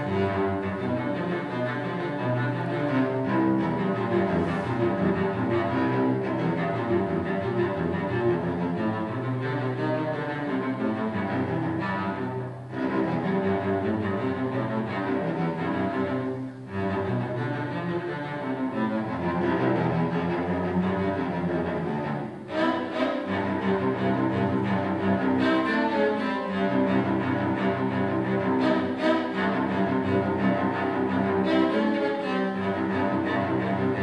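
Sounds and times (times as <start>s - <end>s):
bowed cello: 0.0s - 34.0s.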